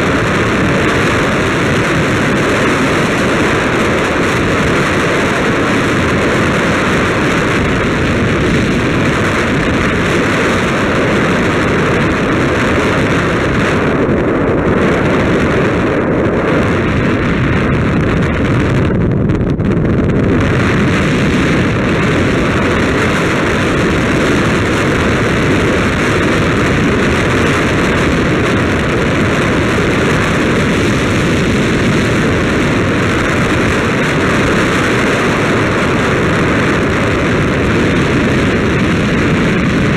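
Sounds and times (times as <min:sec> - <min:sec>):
road and tyre noise: 0:00.0 - 0:39.9
wind rushing over microphone: 0:00.0 - 0:39.9.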